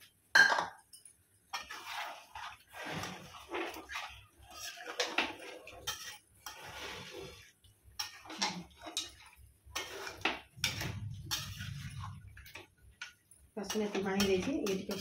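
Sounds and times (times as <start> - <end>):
metal spatula scraping a pan: 1.0 - 15.0.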